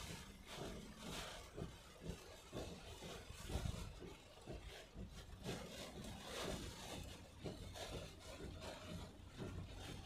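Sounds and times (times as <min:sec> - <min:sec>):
heavy rain on a car: 0:00.0 - 0:10.0.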